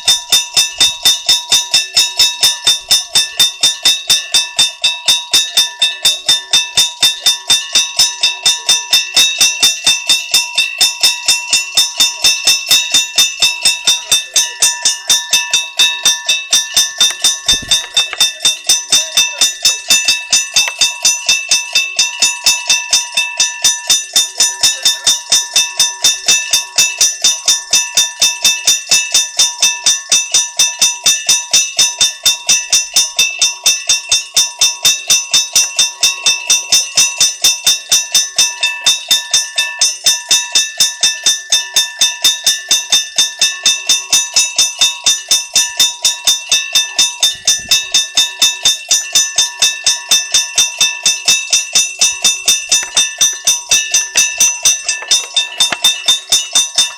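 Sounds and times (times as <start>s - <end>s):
level crossing bell ringing: 0.0s - 56.9s.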